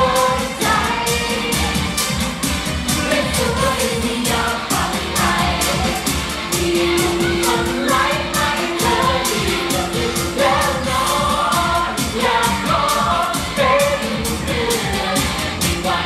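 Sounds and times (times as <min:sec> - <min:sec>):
pop song singing over dance beat: 0:00.0 - 0:16.0.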